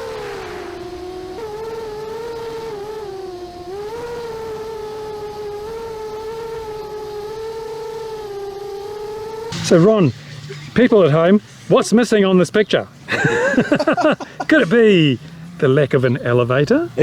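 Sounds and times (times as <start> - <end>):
small high-revving engine: 0.0 - 17.0.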